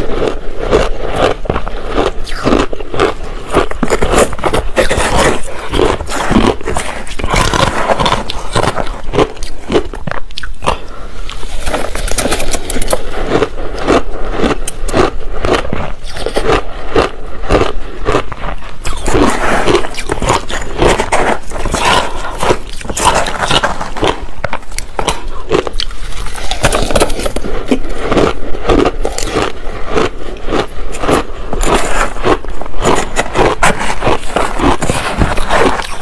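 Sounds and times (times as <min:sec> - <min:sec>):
crushed ice being chewed: 0:00.0 - 0:36.0.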